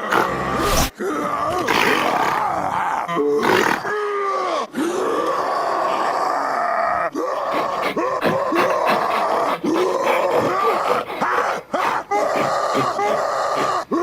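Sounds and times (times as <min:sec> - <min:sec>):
creature growls and grunts: 0:00.0 - 0:14.0.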